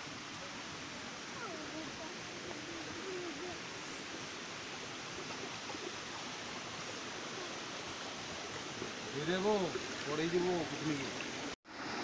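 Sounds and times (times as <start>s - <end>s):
water flowing over rocks: 0.0s - 12.0s.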